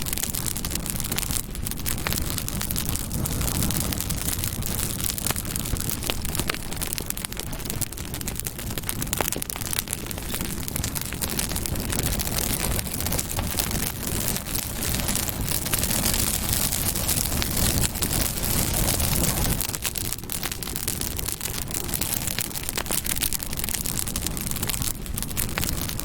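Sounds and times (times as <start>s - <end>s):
campfire crackling: 0.0s - 26.0s
fire hiss: 0.0s - 26.0s.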